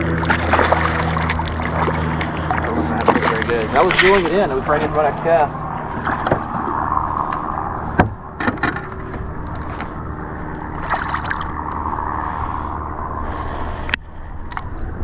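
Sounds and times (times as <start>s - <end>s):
low motor drone: 0.0s - 15.0s.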